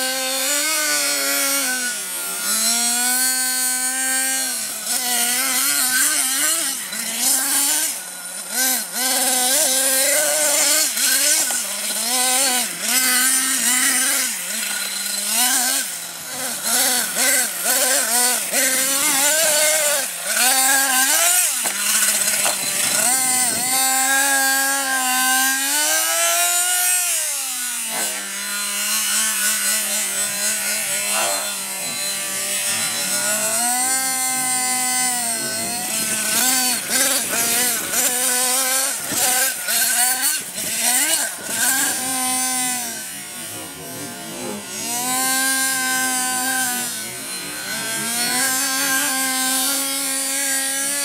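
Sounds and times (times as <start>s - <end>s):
small nitro engine revving and idling: 0.0s - 51.0s.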